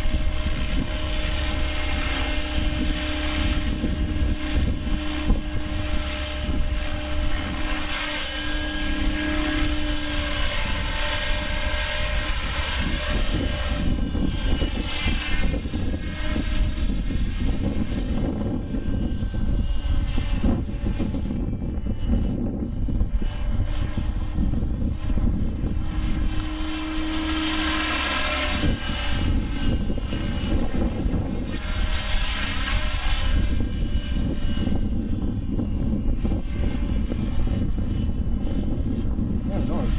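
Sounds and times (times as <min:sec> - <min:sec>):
model helicopter rotor whine: 0:00.0 - 0:39.9
wind buffeting microphone: 0:00.0 - 0:39.9.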